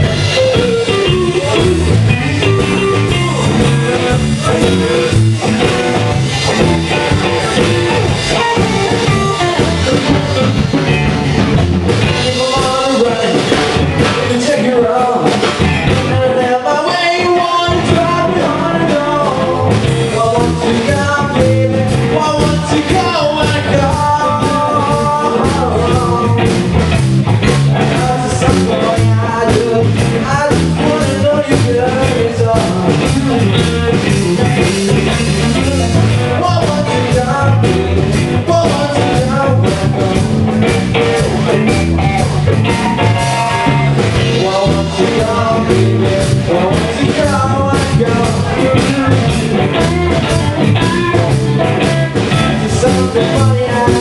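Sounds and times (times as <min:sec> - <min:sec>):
person singing: 0:00.0 - 0:11.1, 0:11.9 - 0:26.8, 0:27.5 - 0:54.0
live rock band playing: 0:00.0 - 0:54.0.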